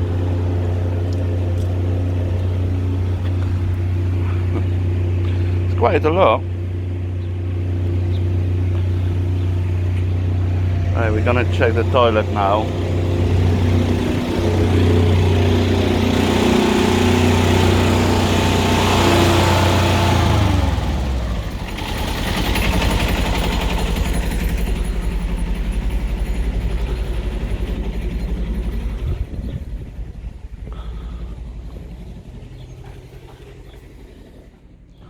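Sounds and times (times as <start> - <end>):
machine engine running: 0.0 - 35.0.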